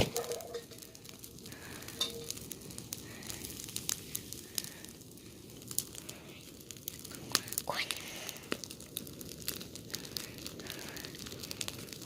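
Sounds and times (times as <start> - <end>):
dry grass burning and crackling: 0.0 - 12.0
low steady fire rush: 0.0 - 12.0.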